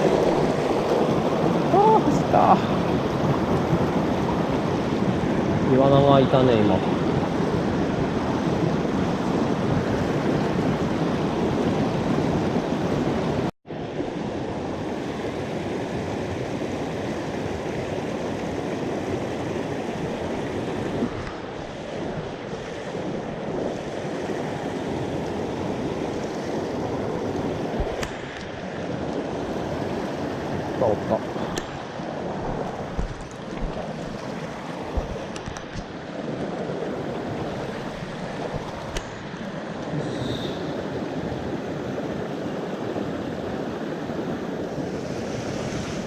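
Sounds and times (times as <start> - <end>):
stream water rushing: 0.0 - 46.0.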